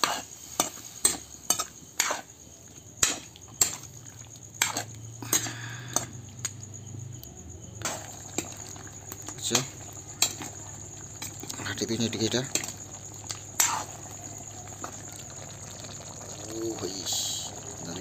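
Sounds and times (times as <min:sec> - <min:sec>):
faint sizzle from pan: 0:00.0 - 0:18.0.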